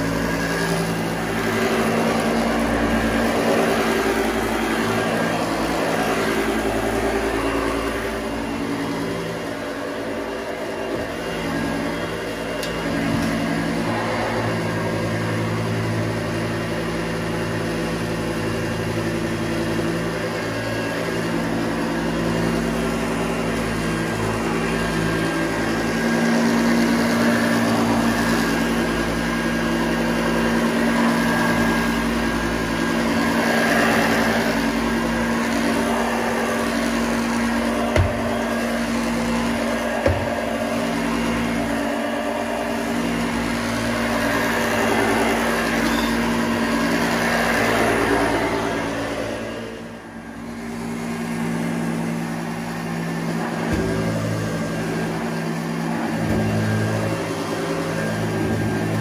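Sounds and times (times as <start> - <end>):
vacuum cleaner on carpet: 0.0 - 59.0.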